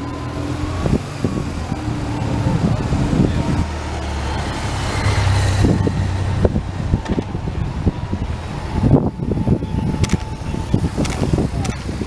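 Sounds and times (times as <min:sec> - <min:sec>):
low rumbling: 0:00.0 - 0:12.0
vehicle engines passing: 0:00.0 - 0:12.0.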